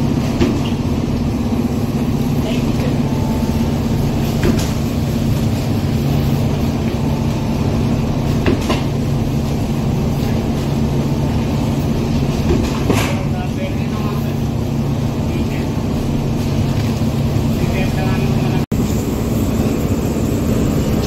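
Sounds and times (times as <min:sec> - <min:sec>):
die-cutting machine humming: 0:00.0 - 0:21.0.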